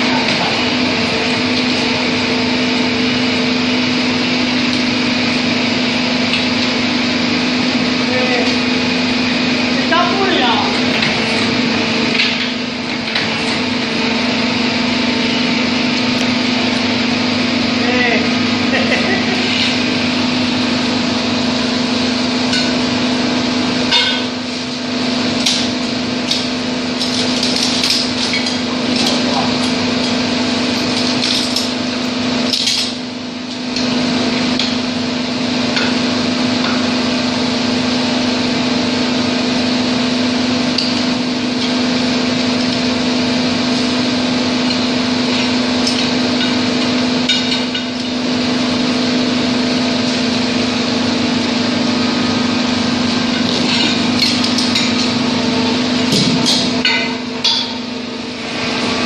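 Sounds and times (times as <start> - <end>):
drilling rig humming: 0.0 - 59.0.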